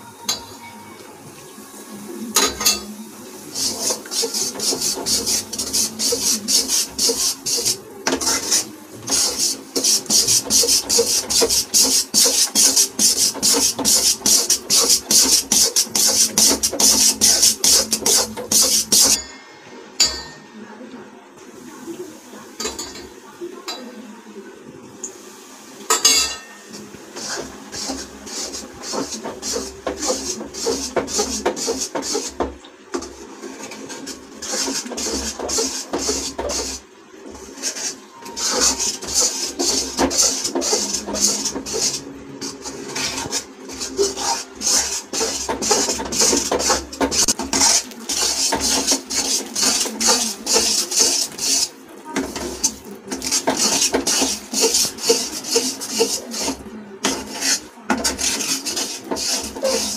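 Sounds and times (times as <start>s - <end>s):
spatula scraping a pan: 2.4s - 19.2s, 26.0s - 59.9s.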